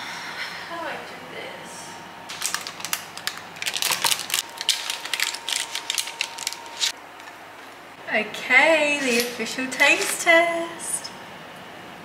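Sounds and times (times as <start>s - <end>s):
oven fan running: 0.0s - 12.0s.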